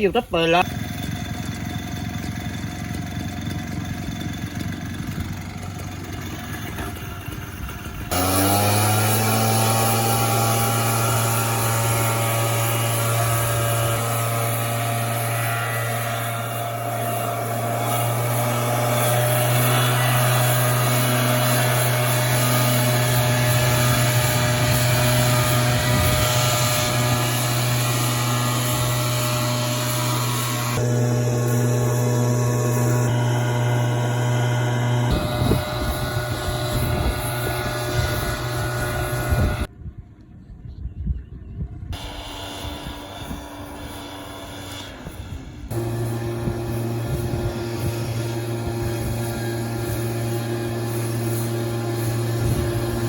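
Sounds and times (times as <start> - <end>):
small engine running rough: 0.1 - 39.7, 41.9 - 53.0
motor humming: 0.6 - 39.7, 42.0 - 53.0.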